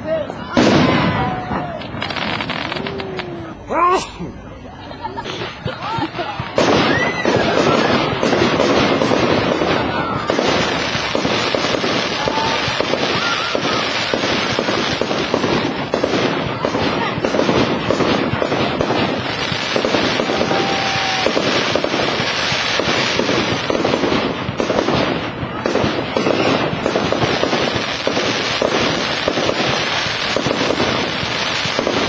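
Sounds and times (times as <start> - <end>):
fireworks bangs and crackles: 0.0 - 3.7, 5.0 - 32.0
firework whistles: 0.3 - 3.7, 5.2 - 16.7, 17.3 - 32.0.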